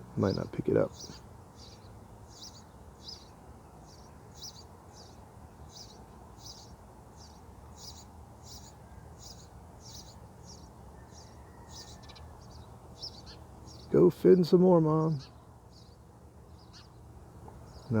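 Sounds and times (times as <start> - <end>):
nestling birds chirping: 0.0 - 18.0.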